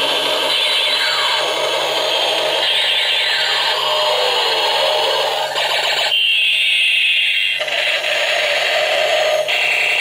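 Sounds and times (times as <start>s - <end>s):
toy siren sound effect: 0.1s - 10.0s.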